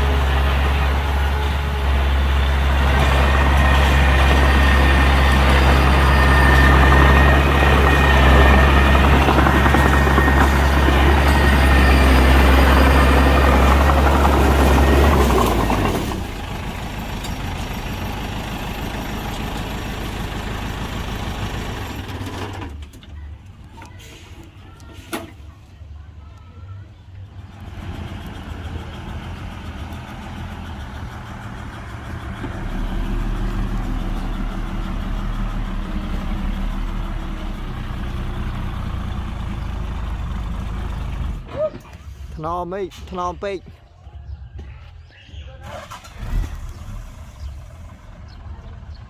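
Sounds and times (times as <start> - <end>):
heavy diesel engine running: 0.0 - 42.7, 45.8 - 49.0.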